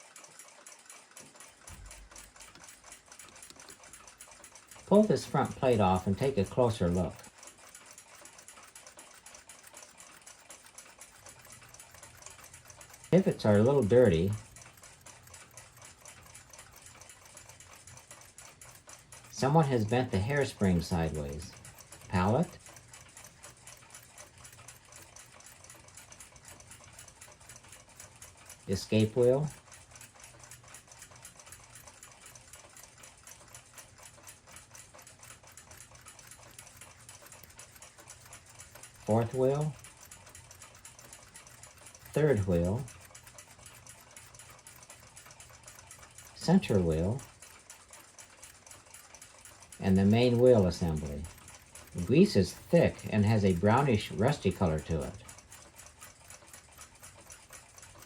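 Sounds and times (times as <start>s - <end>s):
fast even ticking: 0.0s - 58.0s
light clicking of metal clock parts: 0.0s - 58.0s.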